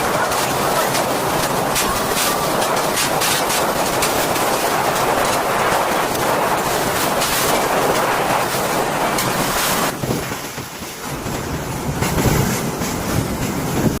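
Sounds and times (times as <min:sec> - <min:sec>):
hurricane wind roaring: 0:00.0 - 0:14.0.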